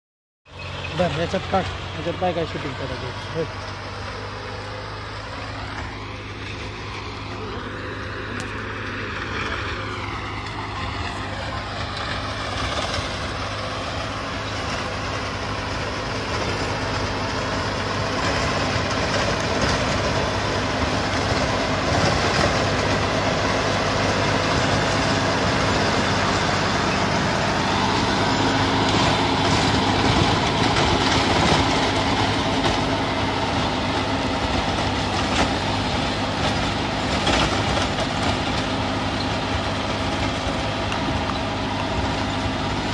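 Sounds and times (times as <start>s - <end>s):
tractor diesel engine: 0.5s - 42.9s
rotary tiller churning soil: 0.6s - 42.9s.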